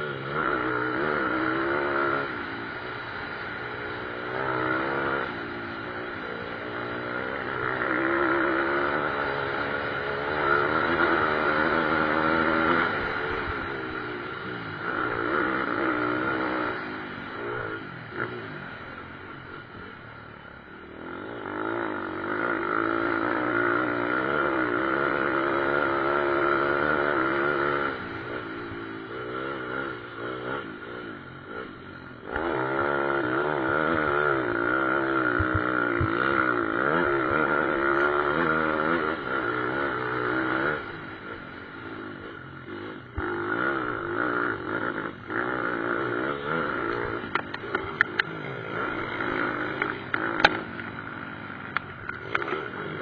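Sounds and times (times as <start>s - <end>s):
pit bike engines revving: 0.0s - 53.0s.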